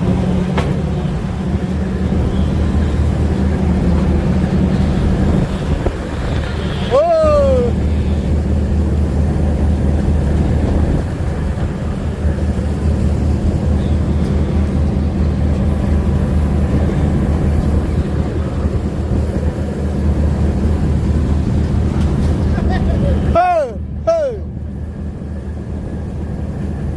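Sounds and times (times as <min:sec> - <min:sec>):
boat engine droning: 0:00.0 - 0:26.9.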